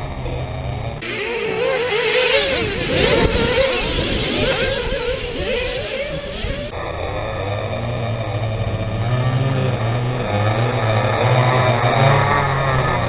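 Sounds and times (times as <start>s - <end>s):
rc car motor revving: 1.0s - 13.0s.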